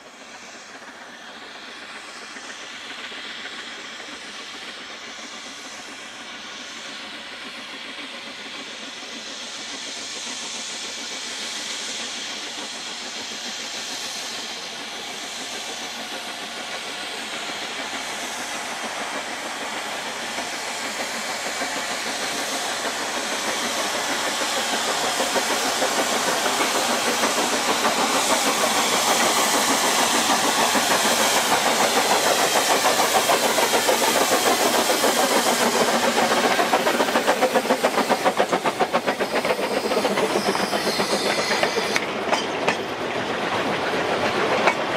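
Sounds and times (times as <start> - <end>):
steam locomotives hissing and exhausting: 0.0 - 44.9.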